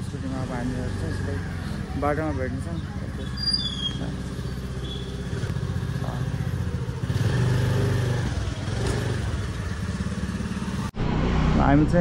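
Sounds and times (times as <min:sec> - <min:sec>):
motorbike engine running: 0:00.0 - 0:11.2.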